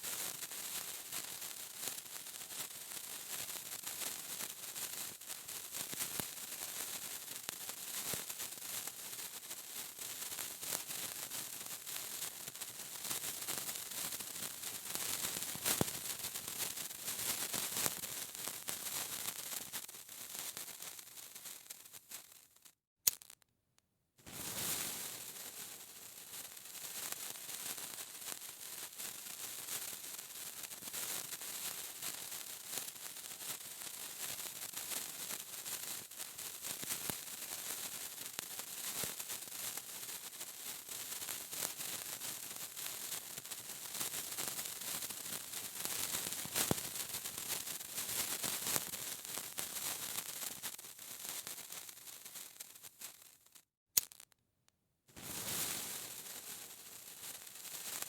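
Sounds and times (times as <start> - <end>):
sparkler fizzing and crackling: 0.0 - 23.4, 24.3 - 54.3, 55.1 - 58.0.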